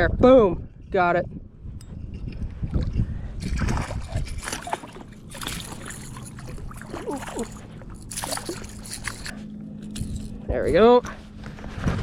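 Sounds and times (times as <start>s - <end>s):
water splashing and sloshing: 2.1s - 12.0s.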